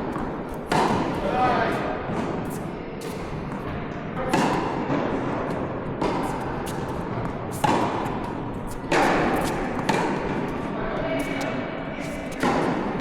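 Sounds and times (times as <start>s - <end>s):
tennis racket hitting ball: 0.0s - 13.0s.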